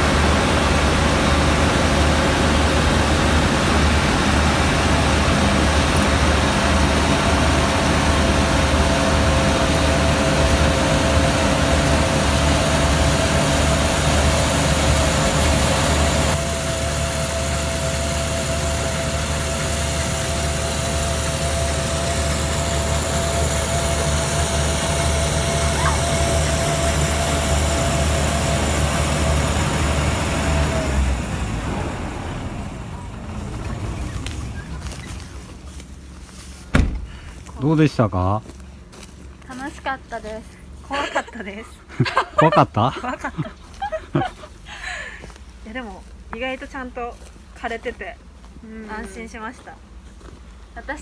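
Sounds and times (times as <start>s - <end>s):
high hum: 0.0s - 45.4s
combine harvester engine drone: 0.0s - 51.0s.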